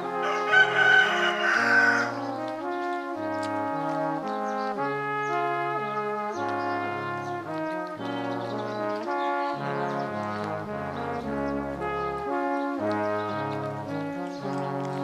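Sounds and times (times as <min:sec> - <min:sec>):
background music chords: 0:00.0 - 0:15.0.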